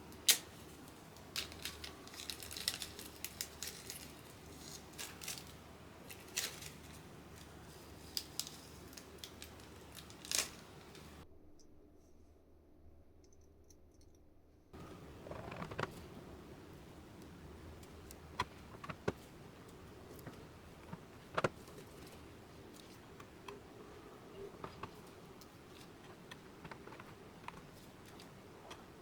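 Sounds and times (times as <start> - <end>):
faint room hum: 0.0 - 29.0.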